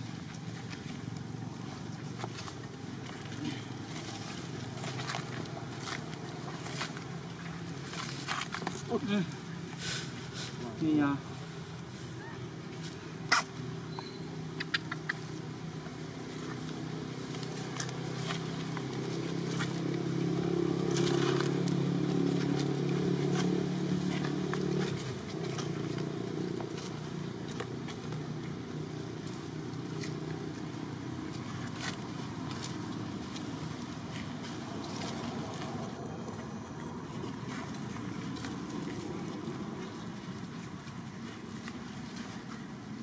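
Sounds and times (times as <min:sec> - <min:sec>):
light crackles and scrapes: 0:00.0 - 0:15.4, 0:16.0 - 0:43.0
engine running: 0:00.0 - 0:43.0.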